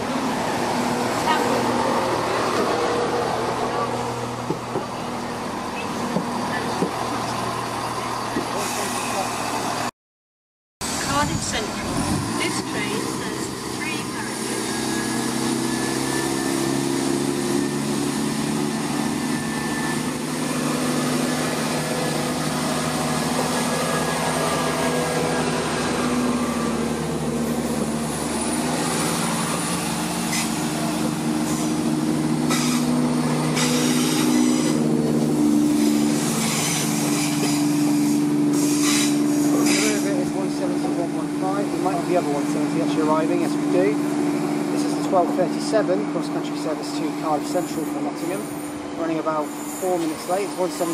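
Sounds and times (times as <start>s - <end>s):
train diesel engines running: 0.0s - 9.9s, 10.8s - 50.9s.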